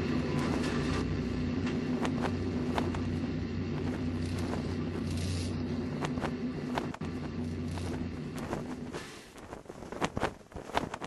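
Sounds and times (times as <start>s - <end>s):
low engine drone: 0.0s - 9.4s.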